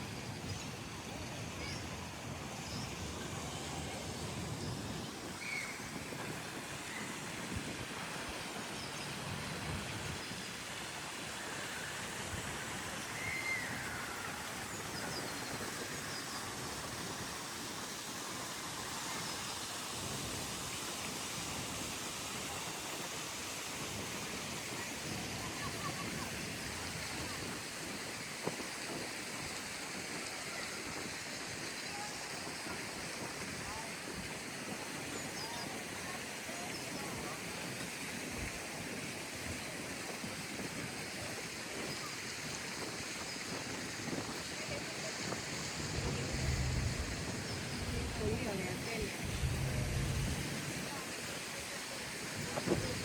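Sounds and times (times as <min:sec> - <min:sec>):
fountain water splashing: 0:00.0 - 0:53.0.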